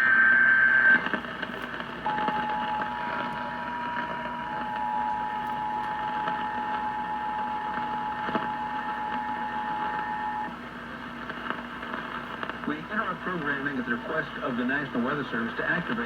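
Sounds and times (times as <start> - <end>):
radio static: 0.0 - 16.0.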